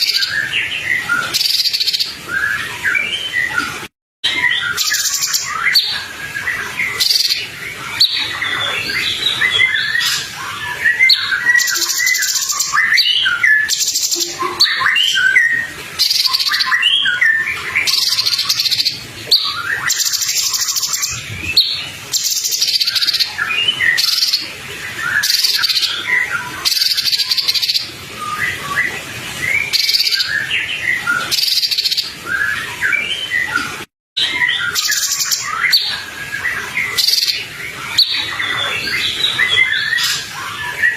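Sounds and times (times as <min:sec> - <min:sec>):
songbird chirps and whistles: 0:00.0 - 0:40.9.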